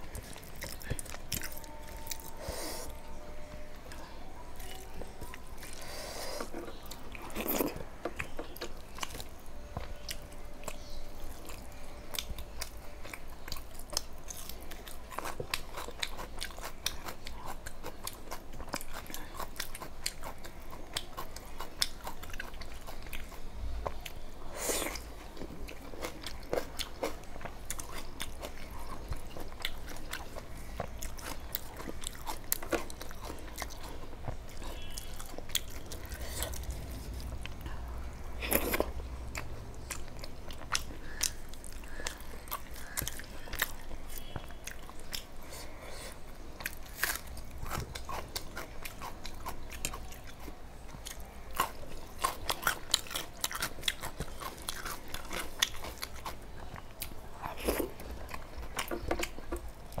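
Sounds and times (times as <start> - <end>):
chewing and crunching: 0.0 - 60.0.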